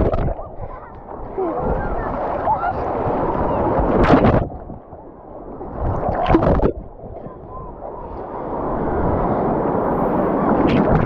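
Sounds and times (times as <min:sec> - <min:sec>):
water splashing against camera: 0:00.0 - 0:08.7, 0:10.4 - 0:11.0
breaking surf rushing: 0:00.0 - 0:11.0.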